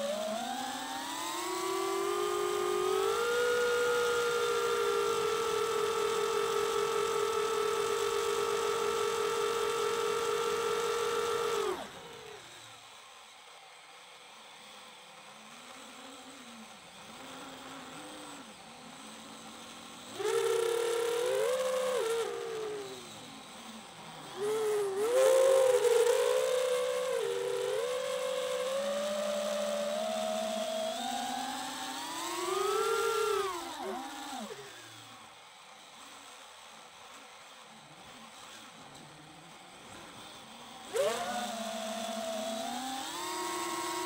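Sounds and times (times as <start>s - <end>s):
drone motors whining: 0.0s - 13.5s, 14.6s - 44.0s.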